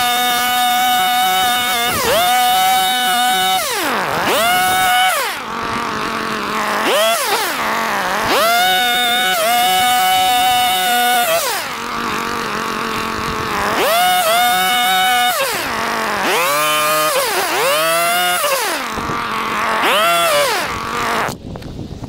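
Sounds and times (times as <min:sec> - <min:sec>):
hedge trimmer engine revving: 0:00.0 - 0:21.4.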